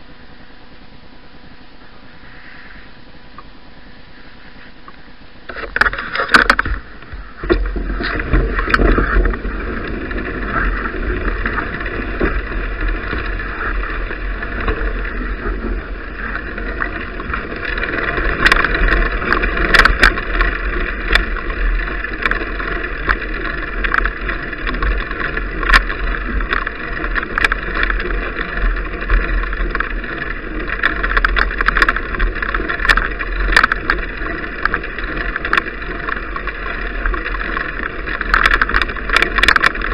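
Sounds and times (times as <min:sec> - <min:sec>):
wind and tyre rumble: 0:03.1 - 0:39.9
bike rattling clicks: 0:04.9 - 0:39.9.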